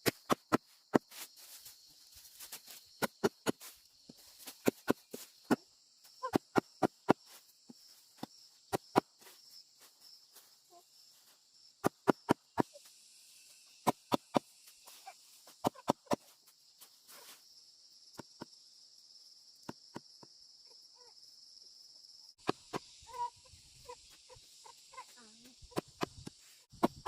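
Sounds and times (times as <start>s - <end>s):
high-pitched insect chorus: 0.2s - 27.0s.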